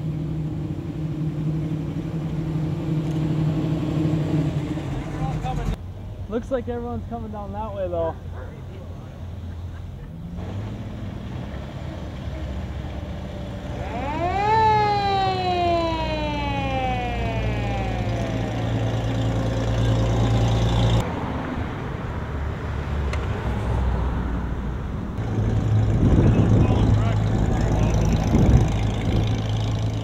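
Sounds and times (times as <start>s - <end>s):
vehicle passing: 0.0s - 7.0s, 7.6s - 30.0s
truck engine hum: 0.0s - 30.0s.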